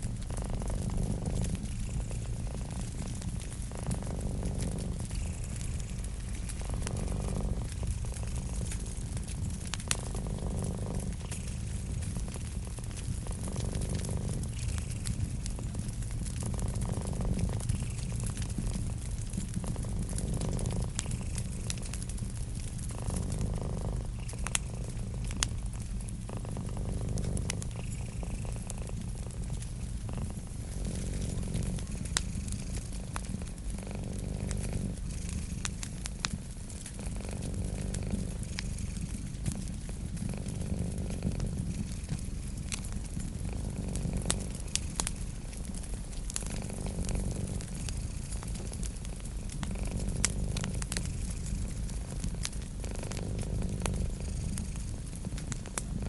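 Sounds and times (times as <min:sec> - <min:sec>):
cat purring: 0:00.0 - 0:56.0
crackling wood fire: 0:00.0 - 0:56.0.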